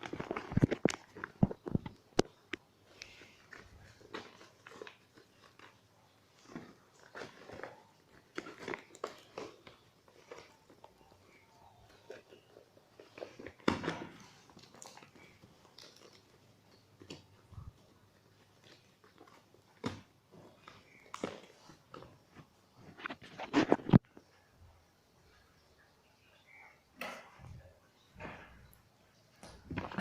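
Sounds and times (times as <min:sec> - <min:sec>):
packaging rustling: 0:00.0 - 0:24.0.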